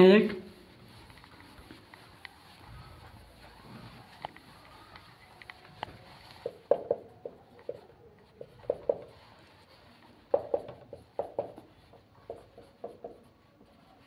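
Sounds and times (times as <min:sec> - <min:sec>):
marker squeaking on whiteboard: 0:00.8 - 0:14.0.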